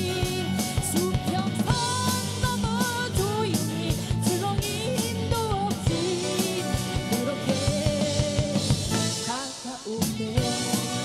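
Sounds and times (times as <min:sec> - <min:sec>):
electric bass: 0:00.0 - 0:09.4, 0:10.0 - 0:11.0
drum kit: 0:00.0 - 0:11.0
electric guitar: 0:00.0 - 0:11.0
woman singing: 0:00.0 - 0:11.0.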